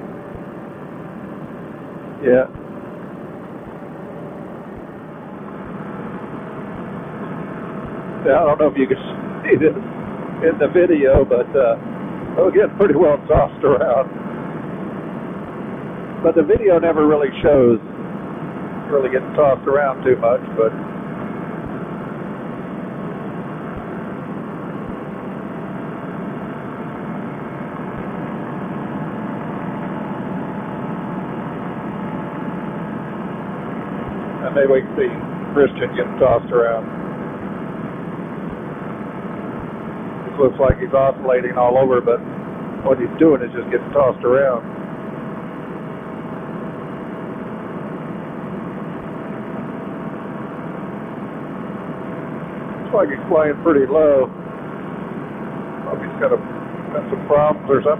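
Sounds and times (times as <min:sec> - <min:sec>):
faint constant hum: 0:00.0 - 0:57.9
small aircraft engine drone: 0:00.0 - 0:57.9.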